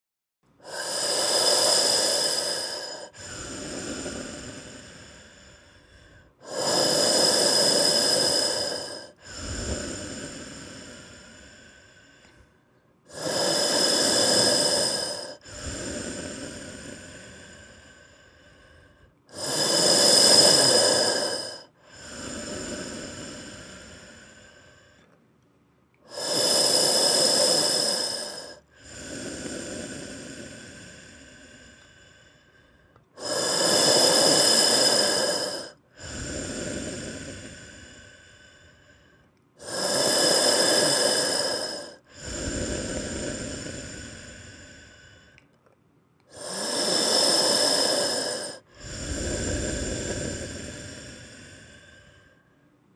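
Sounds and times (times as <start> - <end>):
hissing hospital breathing: 0.6 - 25.2, 26.0 - 45.6, 46.2 - 52.8.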